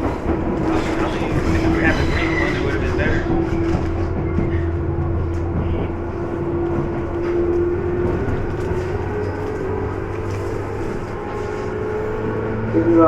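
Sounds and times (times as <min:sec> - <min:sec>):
train rumbling with held tone: 0:00.0 - 0:13.0.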